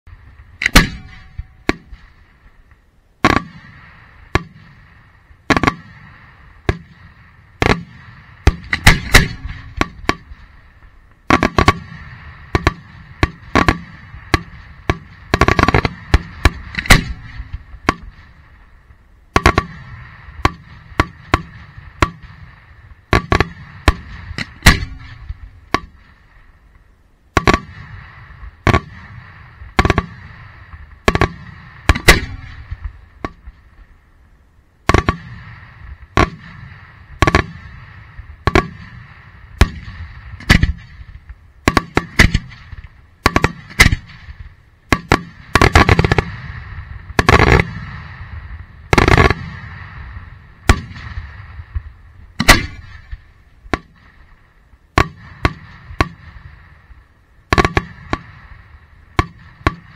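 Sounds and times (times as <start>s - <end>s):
faint hiss: 0.1s - 59.9s
fireworks bangs: 0.1s - 59.9s
fireworks shells firing from mortars: 0.1s - 59.9s.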